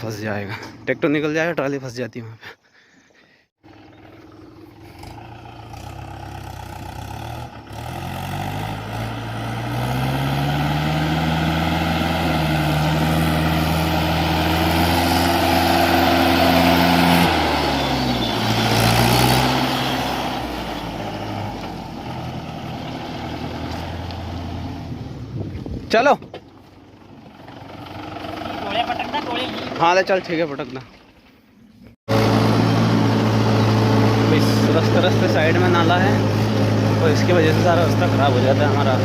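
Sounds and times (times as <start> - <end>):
diesel tractor engine revving: 3.6 - 31.4, 32.1 - 39.0.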